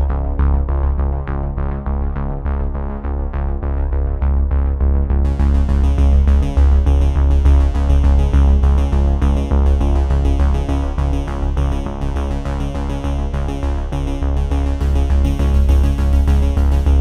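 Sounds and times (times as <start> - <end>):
electronic music with bass and beat: 0.0 - 17.0.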